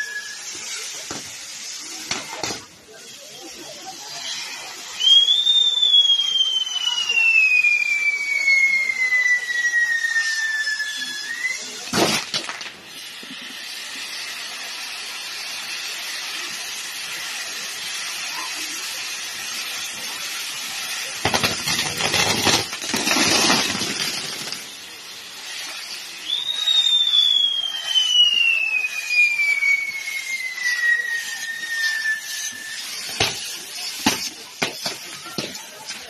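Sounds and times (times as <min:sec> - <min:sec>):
firework whistle sliding down: 0:00.0 - 0:36.0
fireworks crackling: 0:00.0 - 0:36.0
spark fountains hissing: 0:00.0 - 0:36.0.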